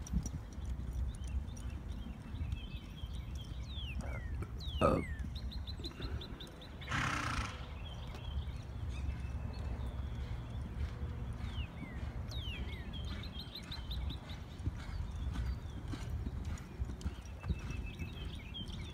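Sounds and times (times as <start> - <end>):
horse moving: 0.0 - 18.9
steady low rumble: 0.0 - 18.9.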